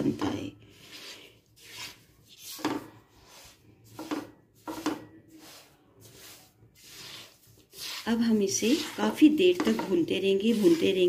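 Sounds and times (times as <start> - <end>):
spatula scraping semolina in wok: 0.6 - 11.0.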